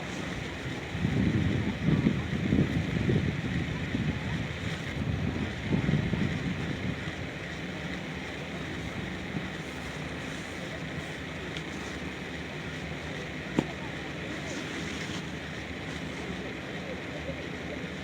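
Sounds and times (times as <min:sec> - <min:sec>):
wind buffeting microphone: 0:00.0 - 0:14.5
steady outdoor rushing noise: 0:00.0 - 0:18.0.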